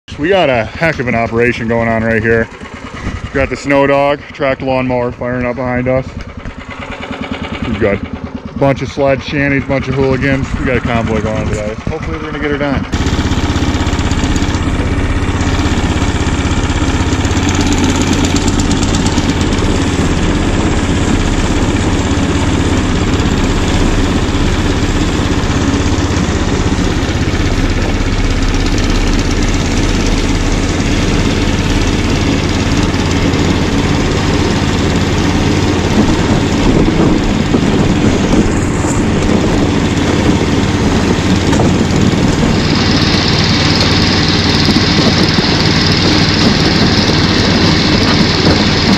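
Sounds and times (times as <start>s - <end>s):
small gas engine droning: 0.1s - 48.9s
track noise on snow: 0.1s - 48.9s.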